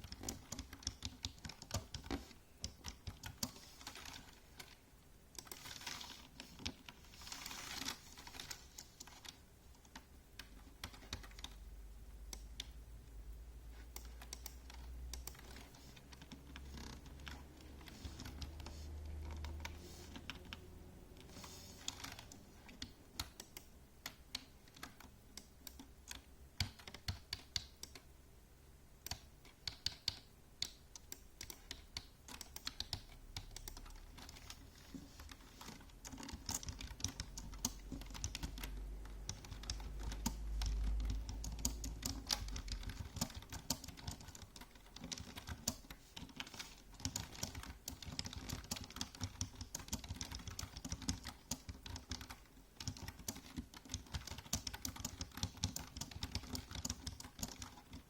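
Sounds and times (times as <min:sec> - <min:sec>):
keyboard typing clicks: 0:00.0 - 0:11.6, 0:13.9 - 0:28.1, 0:29.0 - 0:58.0.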